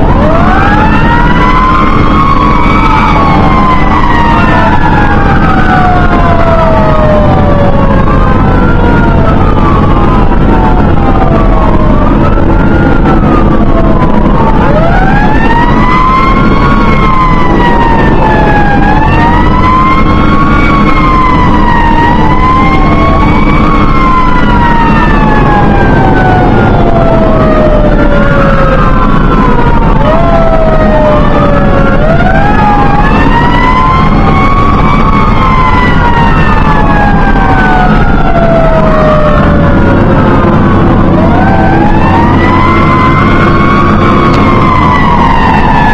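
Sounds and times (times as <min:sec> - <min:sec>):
engine drone: 0:00.0 - 0:45.9
fire engine sirens wailing: 0:00.0 - 0:45.9.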